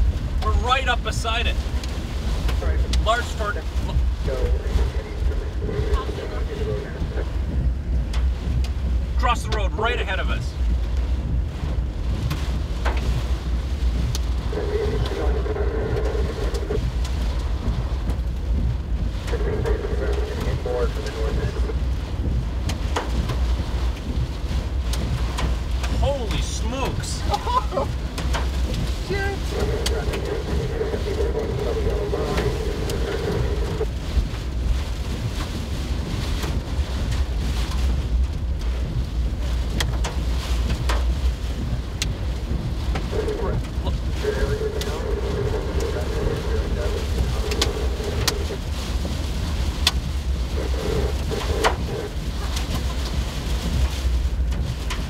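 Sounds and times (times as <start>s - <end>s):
storm wind rumble: 0.0s - 55.0s
vehicle driving noise: 0.0s - 55.0s.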